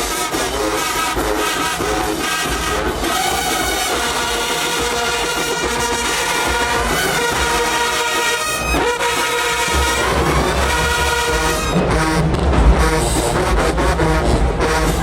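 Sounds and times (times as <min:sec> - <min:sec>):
brass band playing held chords: 0:00.0 - 0:15.0.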